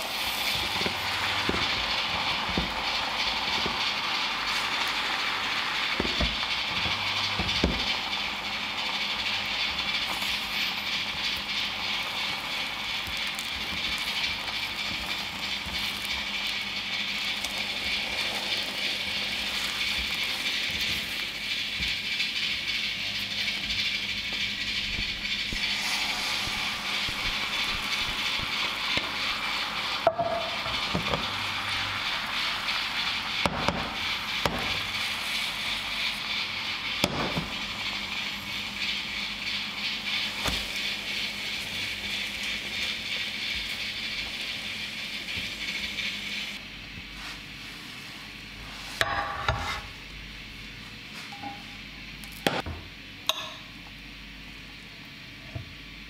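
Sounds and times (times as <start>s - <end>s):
batter sizzling in a frying pan: 0.0s - 47.3s.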